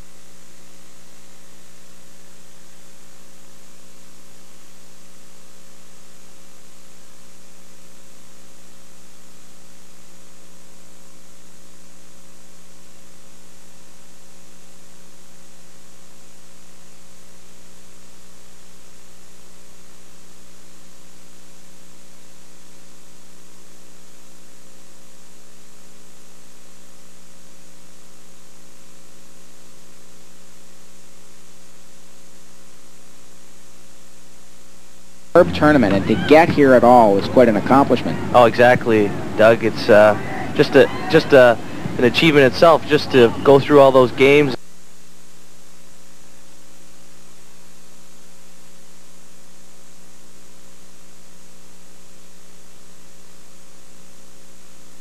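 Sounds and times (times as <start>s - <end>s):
electrical mains hum: 0.0s - 55.0s
steady hiss: 0.0s - 55.0s.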